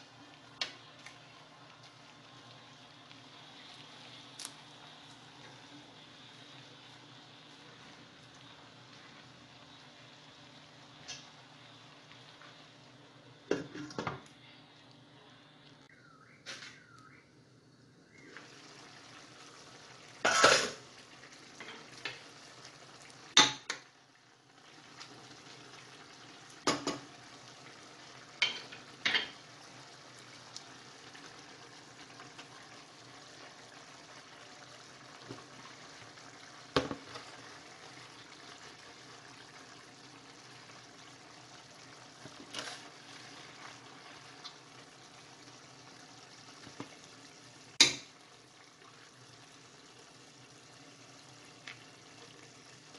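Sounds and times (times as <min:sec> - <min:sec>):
liquid bubbling in saucepan: 0:00.0 - 0:52.9.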